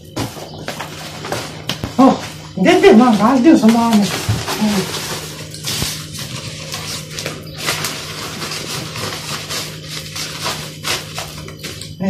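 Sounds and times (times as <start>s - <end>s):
papers and handbag contents rustling: 0.0s - 12.0s
steady low hum: 0.0s - 12.0s.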